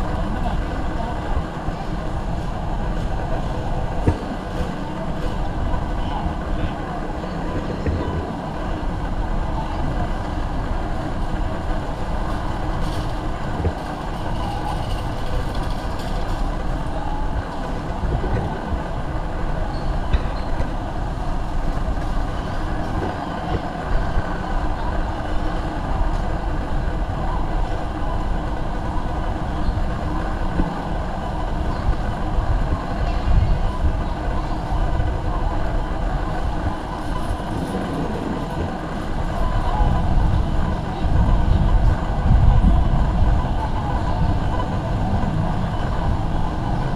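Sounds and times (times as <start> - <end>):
murmur of voices: 0.0 - 46.9.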